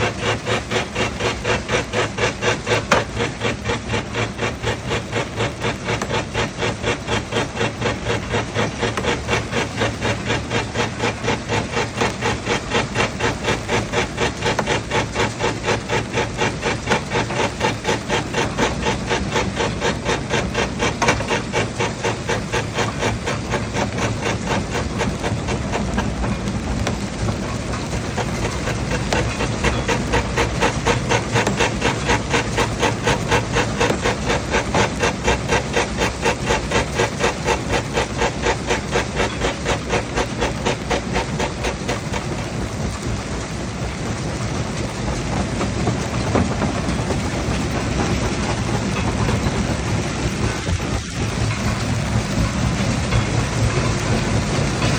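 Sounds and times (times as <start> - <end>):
heavy machinery chugging: 0.0 - 54.9.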